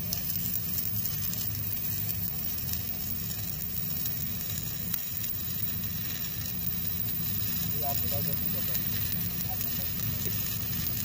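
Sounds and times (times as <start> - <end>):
arc welding crackling sizzle: 0.0 - 11.0.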